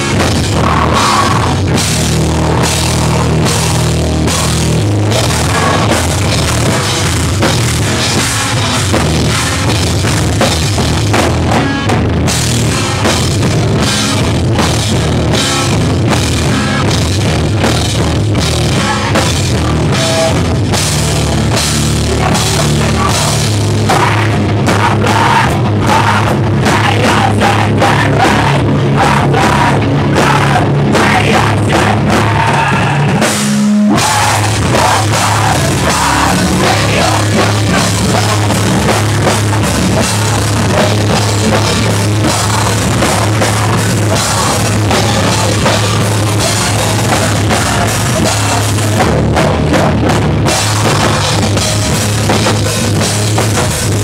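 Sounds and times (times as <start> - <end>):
drum kit and cymbals: 0.0 - 54.0
live rock band playing: 0.0 - 54.0.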